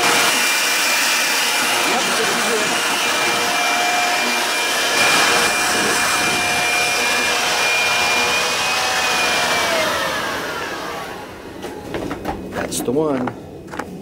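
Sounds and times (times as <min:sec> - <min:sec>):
electric leaf blower whine: 0:00.0 - 0:12.6.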